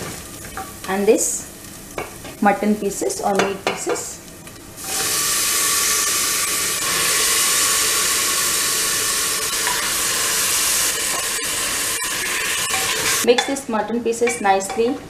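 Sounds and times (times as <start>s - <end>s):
meat sizzling in hot oil: 0.0s - 13.3s.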